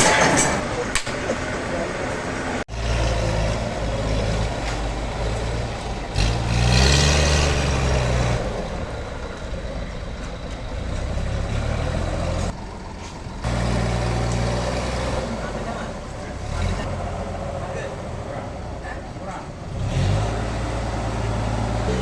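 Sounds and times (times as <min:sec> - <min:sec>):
heavy engine running: 0:00.0 - 0:22.0.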